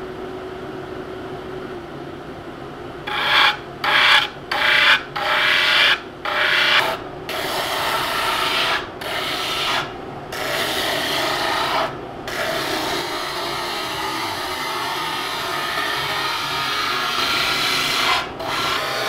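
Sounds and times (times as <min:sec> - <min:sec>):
drum sander hum: 0:00.0 - 0:19.0.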